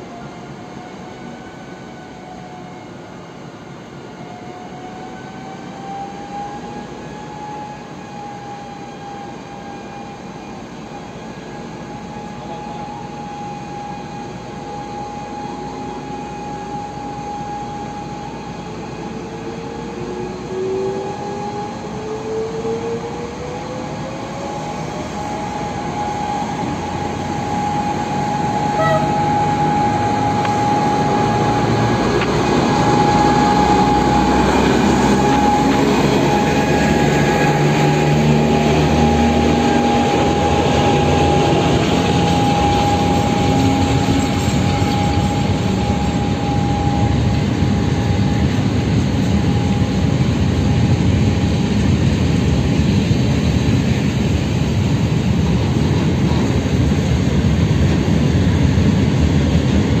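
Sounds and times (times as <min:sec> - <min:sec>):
diesel locomotive engine: 0:00.0 - 1:00.0
high whine: 0:00.0 - 1:00.0.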